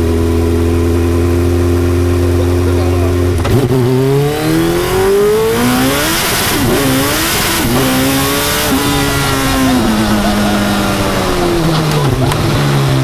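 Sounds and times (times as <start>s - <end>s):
turbocharged engine accelerating: 0.0s - 13.0s.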